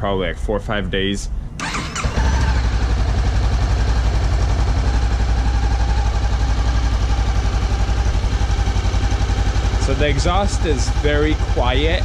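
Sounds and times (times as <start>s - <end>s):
motorcycle engine idling: 1.6s - 12.0s.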